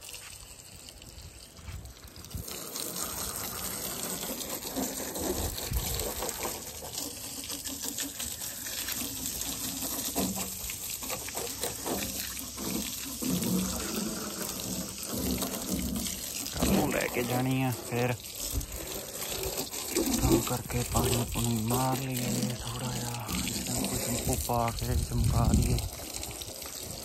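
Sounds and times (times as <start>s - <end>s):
hose water spraying on vehicle: 0.0s - 27.0s.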